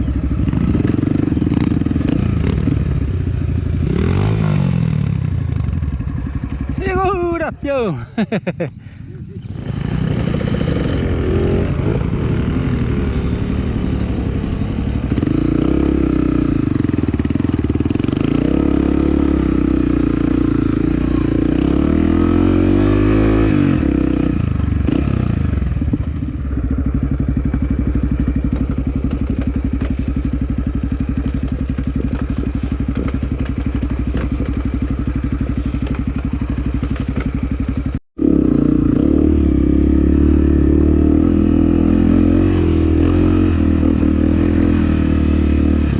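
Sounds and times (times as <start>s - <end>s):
trail motorcycle engine revving: 0.0s - 45.9s.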